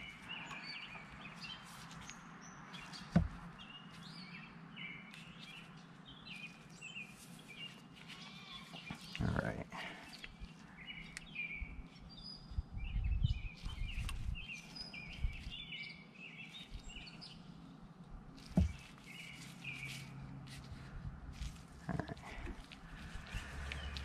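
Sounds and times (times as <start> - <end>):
birds chirping: 0.0 - 17.6, 18.4 - 24.0.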